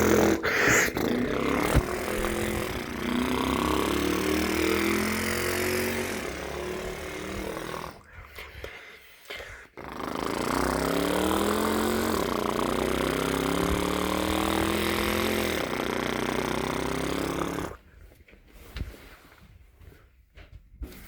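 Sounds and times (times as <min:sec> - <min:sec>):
person imitating an engine: 0:00.0 - 0:08.6, 0:09.4 - 0:17.8.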